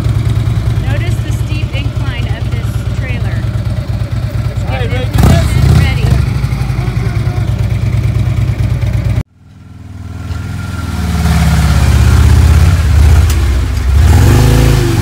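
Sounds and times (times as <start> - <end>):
motorcycle engine: 0.0 - 15.0.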